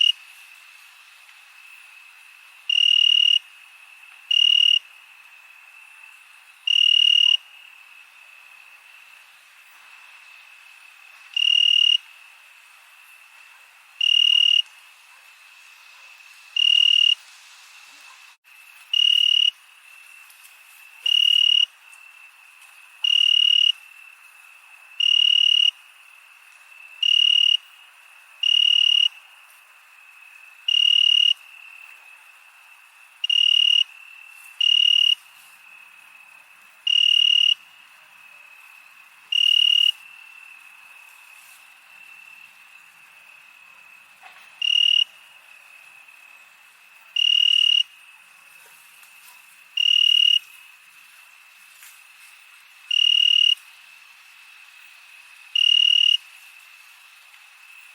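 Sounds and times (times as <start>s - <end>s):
cricket chirping: 0.0s - 57.9s
faint cricket trill: 0.0s - 57.9s.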